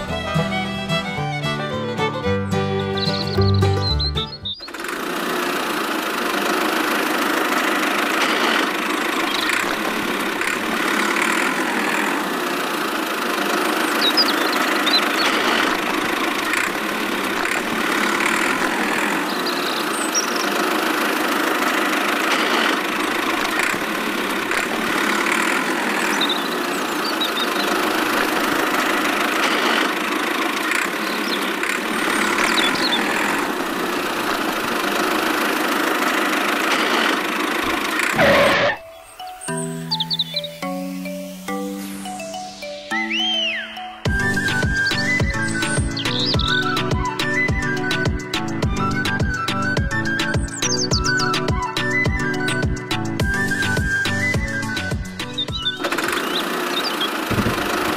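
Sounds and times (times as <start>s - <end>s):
engine running steadily: 0.0s - 38.8s, 44.0s - 57.9s.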